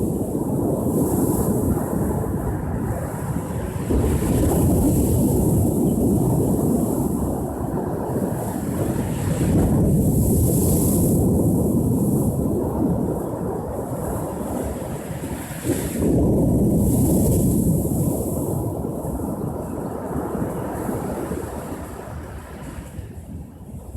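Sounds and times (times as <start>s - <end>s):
ocean surf rumbling: 0.0s - 23.9s
wind buffeting microphone: 0.0s - 23.9s.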